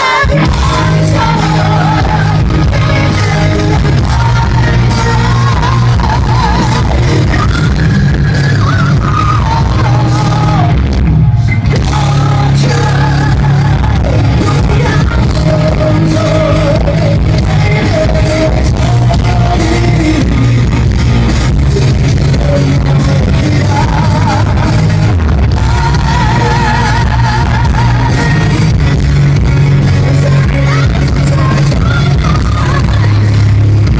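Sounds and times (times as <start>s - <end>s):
heavy bass: 0.0s - 33.9s
song with sung lead vocal: 0.0s - 33.9s.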